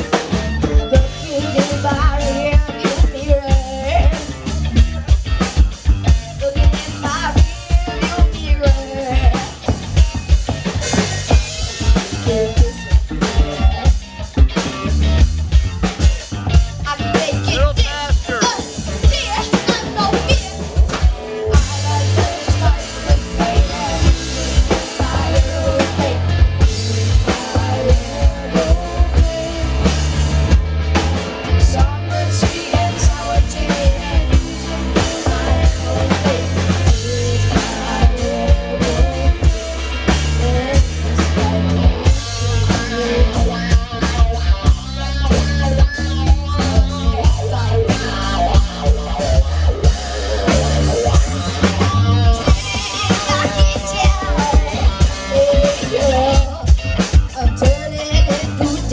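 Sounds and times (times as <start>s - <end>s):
bass line: 0.0s - 58.9s
drum kit beat: 0.0s - 58.9s.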